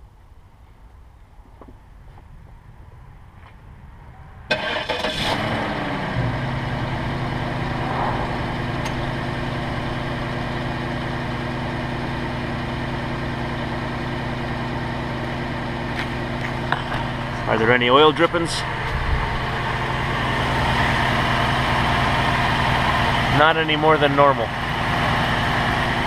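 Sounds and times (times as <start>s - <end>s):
car engine starting and idling: 4.5s - 26.0s.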